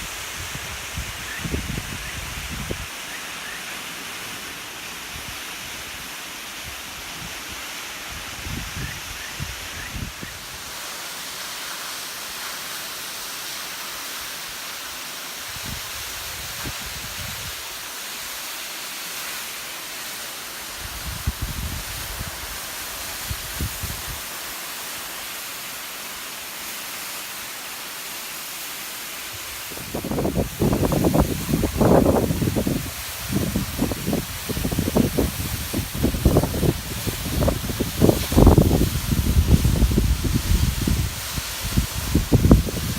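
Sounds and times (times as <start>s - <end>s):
waterfall hissing: 0.0s - 42.9s.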